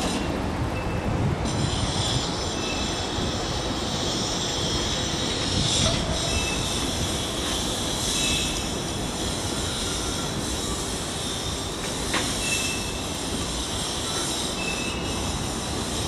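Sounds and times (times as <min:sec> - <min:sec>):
faint wheel squeals: 0:00.0 - 0:15.8
train rumbling over bridge: 0:00.0 - 0:16.0.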